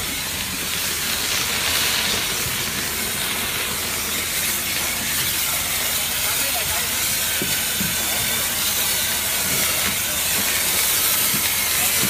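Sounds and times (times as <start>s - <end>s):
concrete spray nozzle hissing: 0.4s - 12.0s.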